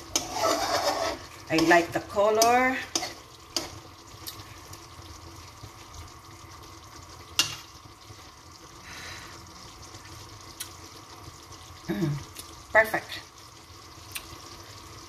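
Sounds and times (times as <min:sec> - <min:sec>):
curry simmering in a pan: 0:00.0 - 0:15.0.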